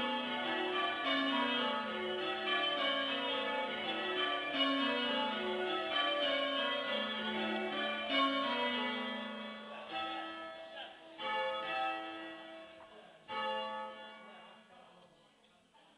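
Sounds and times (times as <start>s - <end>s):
church bells ringing: 0.0s - 14.8s.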